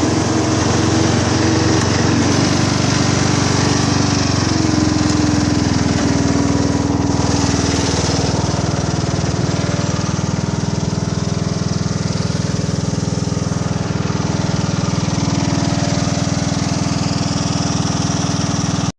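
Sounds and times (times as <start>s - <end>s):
mower engine running: 0.0s - 18.9s.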